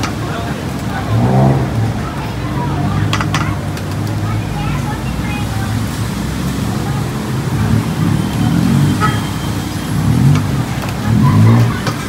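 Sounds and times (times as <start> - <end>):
low traffic rumble: 0.0 - 12.0
passing vehicle engines: 0.0 - 12.0.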